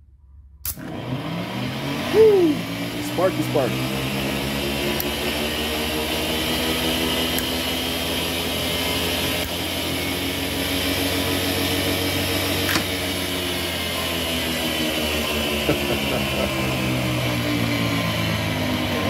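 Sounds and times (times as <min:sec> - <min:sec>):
electric motor hum and whine: 0:00.8 - 0:19.0.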